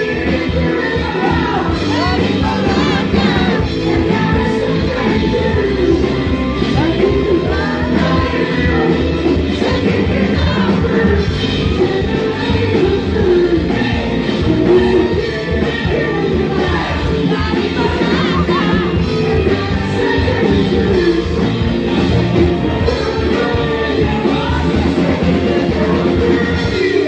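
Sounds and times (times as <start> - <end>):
woman singing into microphone: 0.0 - 21.7, 22.4 - 27.0
live band music: 0.0 - 27.0.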